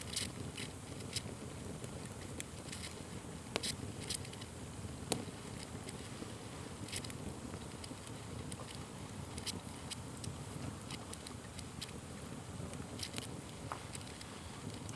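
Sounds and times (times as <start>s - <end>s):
wood fire crackling and popping: 0.0s - 14.9s.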